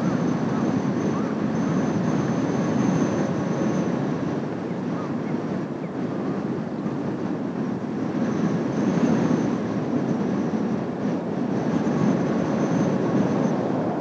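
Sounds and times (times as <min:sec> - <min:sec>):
faint high whine: 0:00.0 - 0:14.0
jet engines rumbling overhead: 0:00.0 - 0:14.0.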